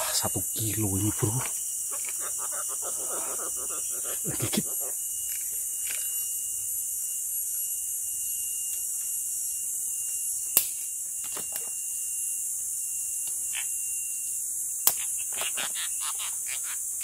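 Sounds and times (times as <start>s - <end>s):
forest insects droning: 0.0s - 17.0s.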